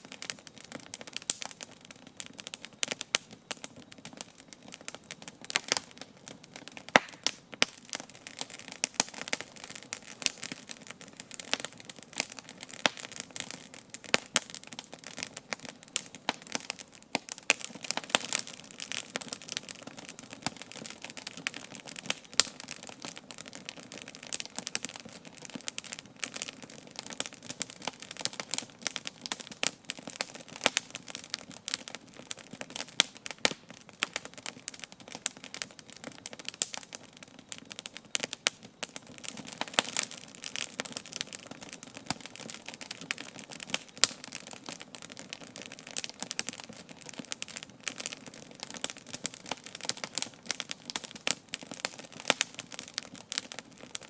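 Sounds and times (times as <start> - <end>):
campfire logs crackling and popping: 0.0 - 54.0.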